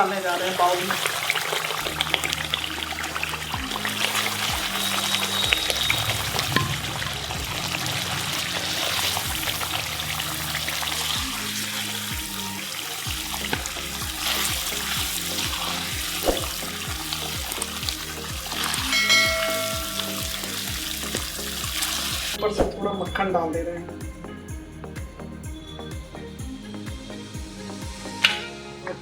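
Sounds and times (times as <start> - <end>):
background music with beat: 1.3 - 29.0.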